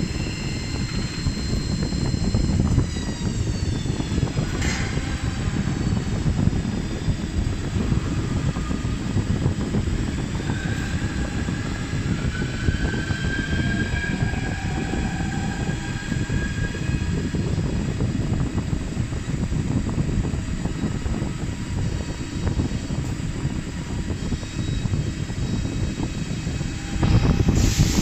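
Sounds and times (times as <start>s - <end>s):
faint machine whine: 0.0s - 28.0s.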